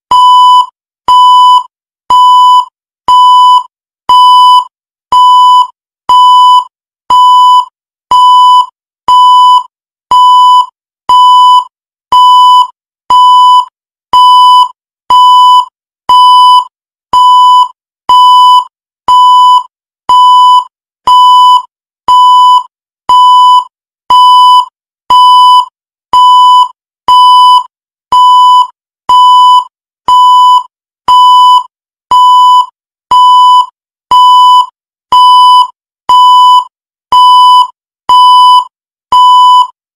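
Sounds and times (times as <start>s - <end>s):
timer electronic beep: 0.1s - 39.7s.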